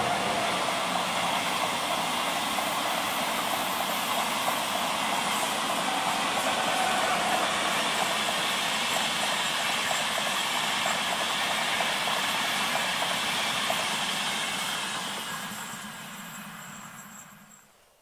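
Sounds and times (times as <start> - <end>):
passenger train passing: 0.0 - 17.8.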